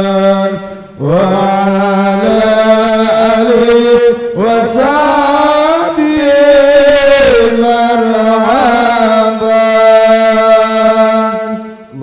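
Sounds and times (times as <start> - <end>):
person chanting devotional song: 0.0 - 12.0.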